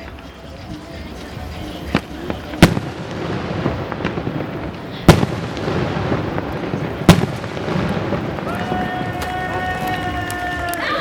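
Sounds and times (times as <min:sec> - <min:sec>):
fireworks bangs and crackle: 0:00.0 - 0:11.0
loud firework shell bursts: 0:01.8 - 0:10.8.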